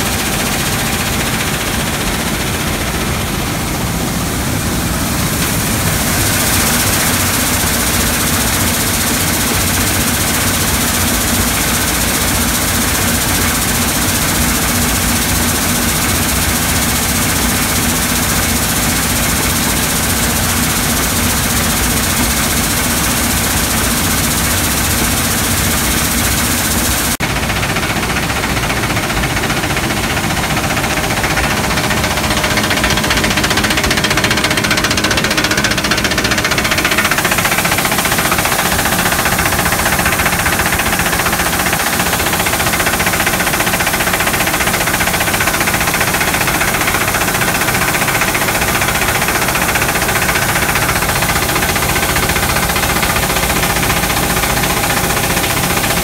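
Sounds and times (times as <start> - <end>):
vibrating screen rattling with stone: 5.4 - 56.0.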